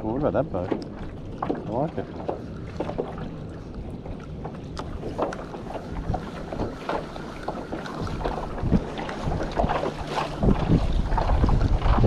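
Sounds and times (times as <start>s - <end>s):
water against hull: 0.0s - 12.0s
wind rumbling on microphone: 0.0s - 12.0s
small knocks on hull: 0.1s - 12.0s.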